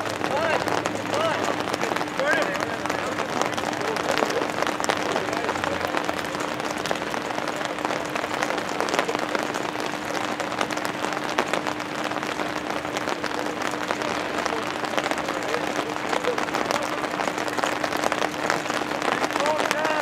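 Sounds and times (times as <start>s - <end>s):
rain drops hitting: 0.0s - 20.0s
steady low hum: 0.0s - 20.0s.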